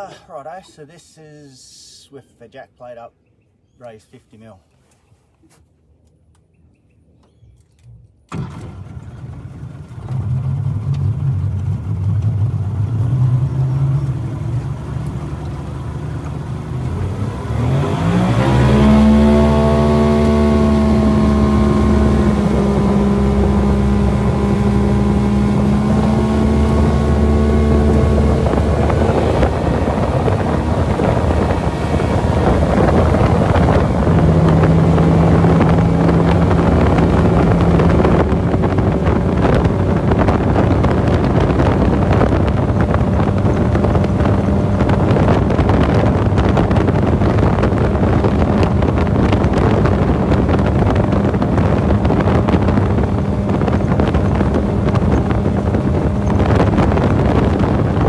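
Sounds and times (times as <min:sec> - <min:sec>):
outboard motor revving: 0:08.3 - 0:58.0.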